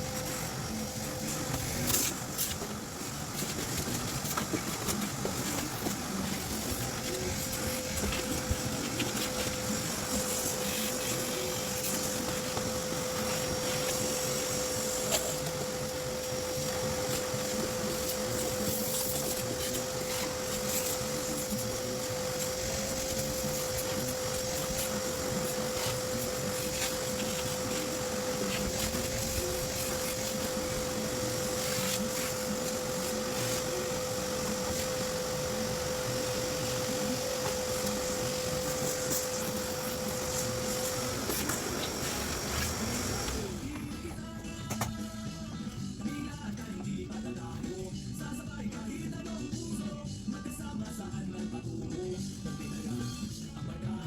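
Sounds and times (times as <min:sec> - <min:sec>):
vacuum cleaner running: 0:00.0 - 0:46.7.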